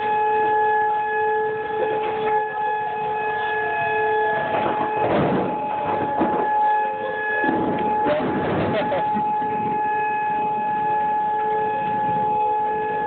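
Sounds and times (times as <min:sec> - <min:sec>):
warning siren two-note tone: 0:00.0 - 0:13.0.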